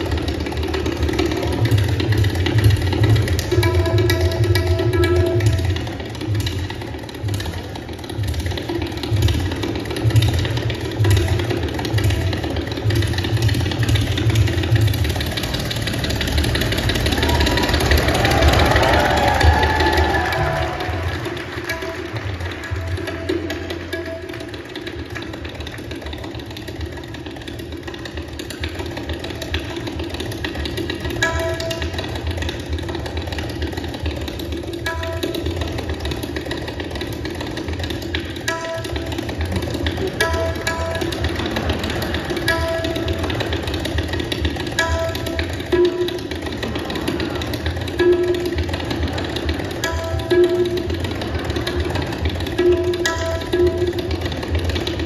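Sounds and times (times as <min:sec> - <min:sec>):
tabla drumming fast: 0:00.0 - 0:55.0.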